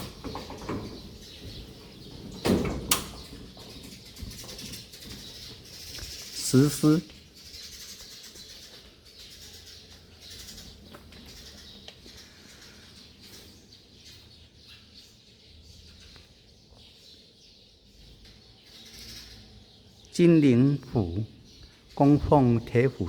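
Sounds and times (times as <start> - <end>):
sparrows chirping: 0.0 - 23.0.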